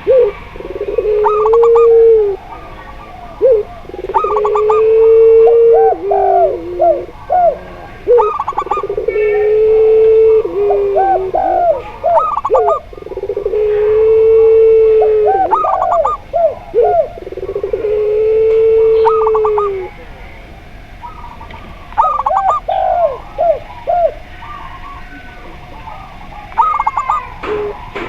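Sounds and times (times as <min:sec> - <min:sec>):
low dove coos: 0:00.0 - 0:28.0.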